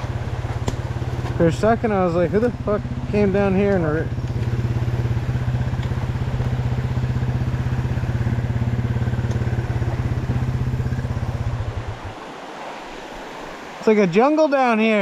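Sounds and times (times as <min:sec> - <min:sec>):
dirt bike engine idling: 0:00.0 - 0:12.2
creek rushing: 0:00.0 - 0:15.0.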